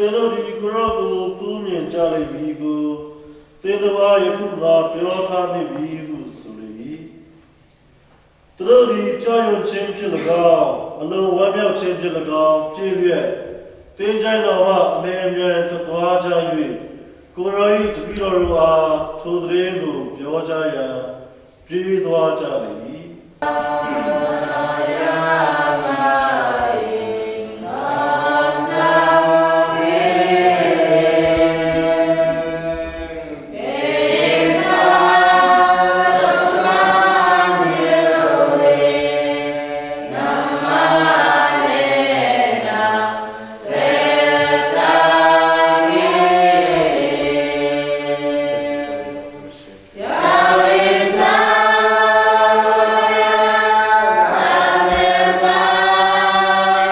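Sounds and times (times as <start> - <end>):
choir singing a slow hymn: 8.6 - 56.9.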